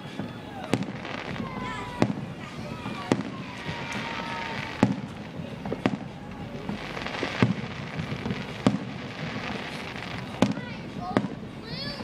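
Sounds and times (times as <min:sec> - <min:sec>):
firework shells bursting: 0:00.1 - 0:11.5.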